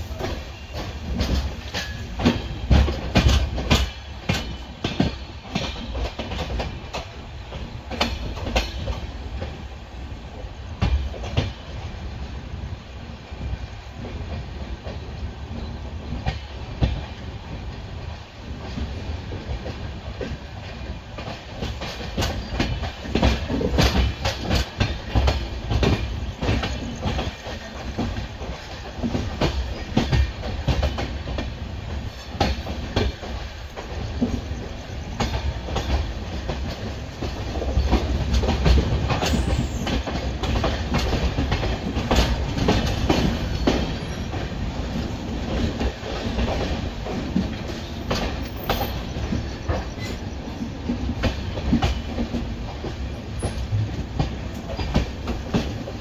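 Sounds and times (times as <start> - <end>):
train wheels clattering over rail joints: 0.0 - 12.7, 13.3 - 56.0
low train rumble: 0.0 - 56.0.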